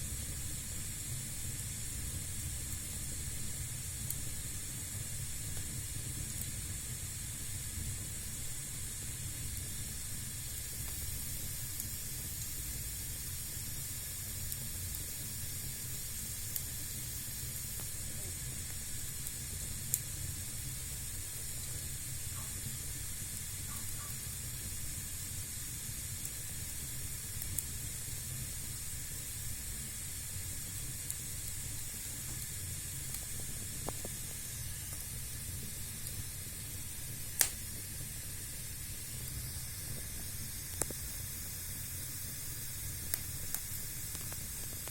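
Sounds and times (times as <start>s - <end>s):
fire crackling: 0.0s - 44.9s
fireplace fire hissing and rumbling: 0.0s - 44.9s.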